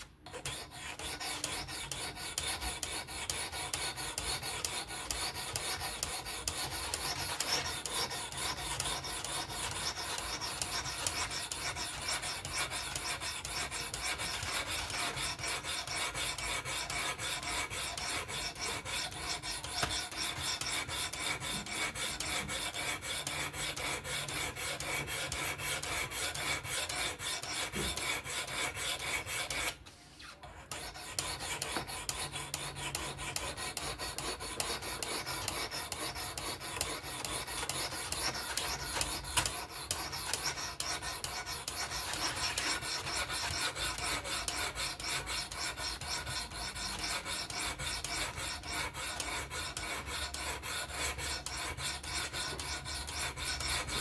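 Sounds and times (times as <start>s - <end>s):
sharpening stone rasping on knife: 0.3s - 54.0s.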